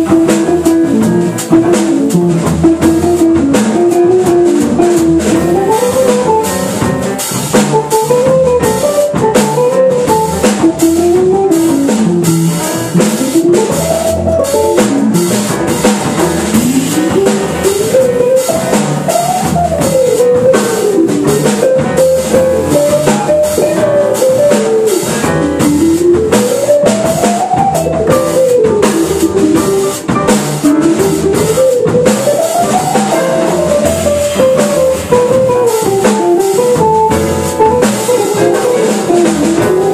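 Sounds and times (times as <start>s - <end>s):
drum kit cymbal strokes: 0.0s - 39.9s
jazz electric guitar runs: 0.0s - 39.9s.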